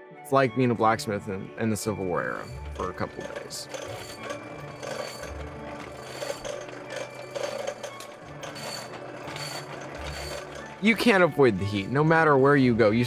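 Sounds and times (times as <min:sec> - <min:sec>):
soft background music: 0:00.0 - 0:13.0
hand-cranked blower whirring and clicking: 0:01.8 - 0:13.0.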